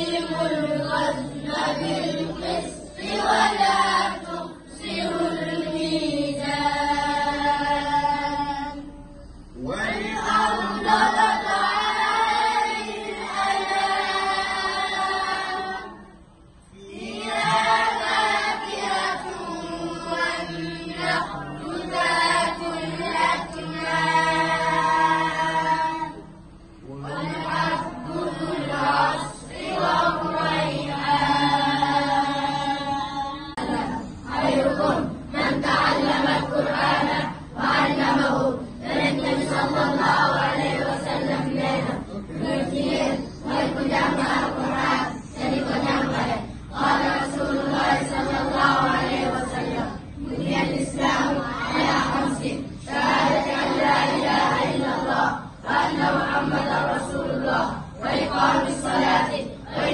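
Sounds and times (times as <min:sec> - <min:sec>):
children chanting in unison: 0:00.0 - 0:59.9.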